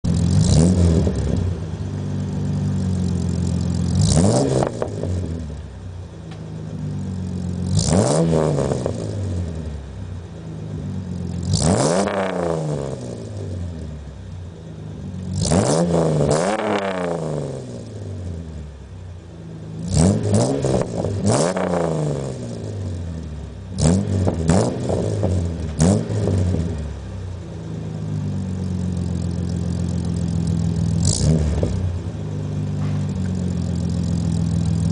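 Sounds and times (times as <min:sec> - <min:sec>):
truck engine idling and revving: 0:00.0 - 0:34.9.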